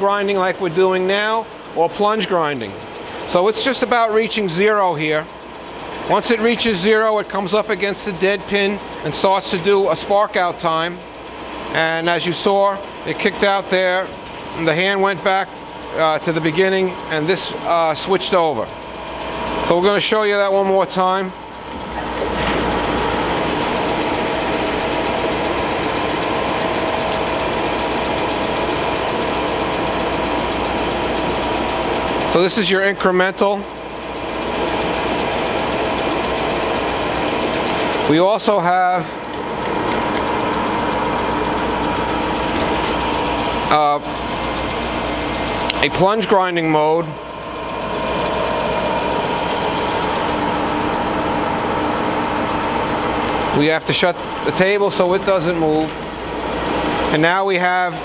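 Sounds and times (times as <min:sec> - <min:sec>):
grinder machine whirring: 0:00.0 - 0:58.0
thin steady whine: 0:00.0 - 0:58.0.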